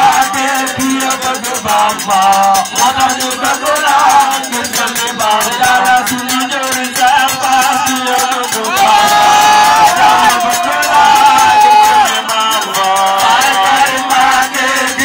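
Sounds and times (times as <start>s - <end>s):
man singing through loudspeaker: 0.0s - 15.0s
rhythmic rattling percussion: 0.0s - 15.0s.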